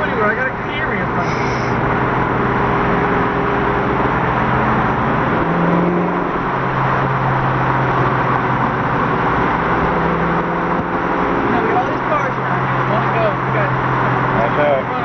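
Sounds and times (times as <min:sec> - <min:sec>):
car engine running from inside: 0:00.0 - 0:15.0.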